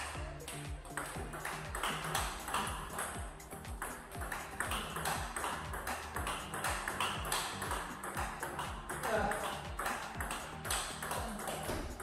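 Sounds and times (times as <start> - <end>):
background music with steady beat: 0.0 - 12.0
table tennis ball clicks: 0.4 - 12.0.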